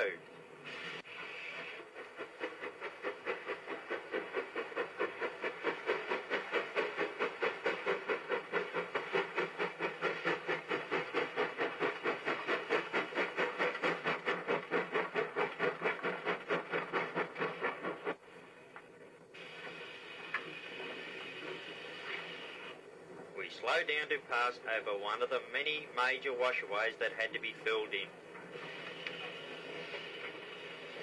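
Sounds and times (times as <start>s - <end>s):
steam locomotive chuffing: 0.0s - 31.0s
steam hiss: 0.5s - 18.6s, 19.2s - 31.0s.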